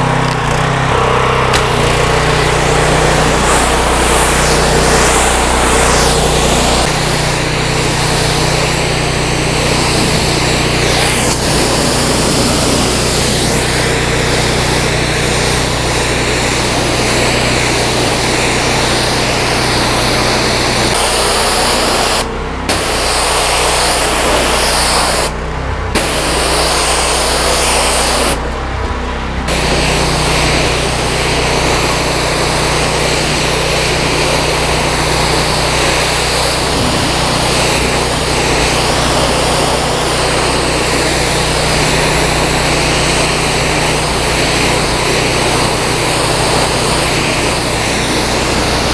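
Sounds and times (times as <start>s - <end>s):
high-pressure water spray hissing: 0.0s - 28.6s, 29.4s - 48.9s
pressure washer engine running: 0.0s - 48.9s.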